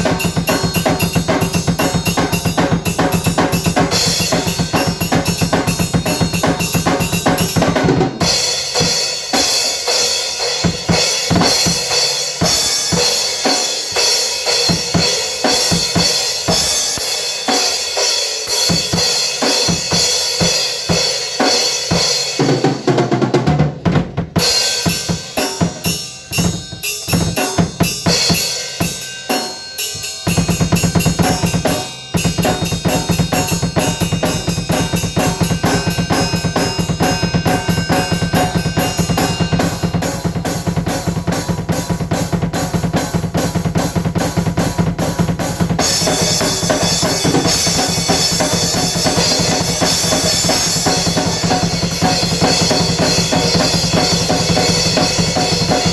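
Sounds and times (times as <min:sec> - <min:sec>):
fast drum kit playing: 0:00.0 - 0:55.9.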